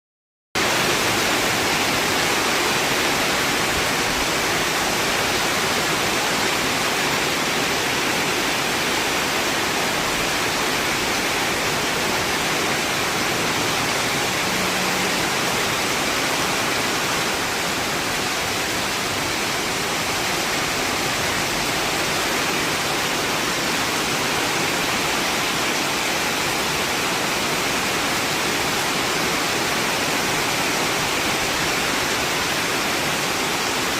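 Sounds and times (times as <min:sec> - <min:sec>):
rain pouring: 0:00.6 - 0:33.9.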